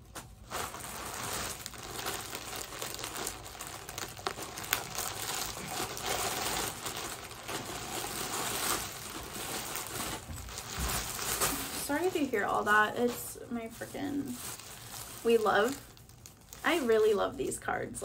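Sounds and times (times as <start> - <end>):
plastic bag crinkling: 0.1 - 18.0.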